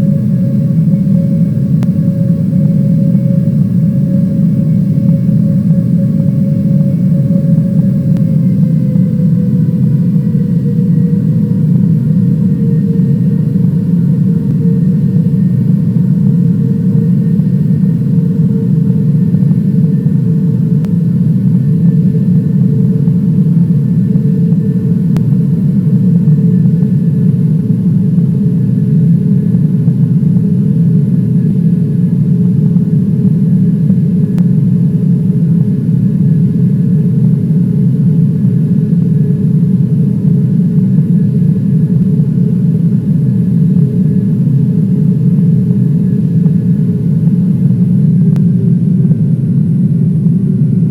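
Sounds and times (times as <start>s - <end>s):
constant hum: 0.0s - 50.9s.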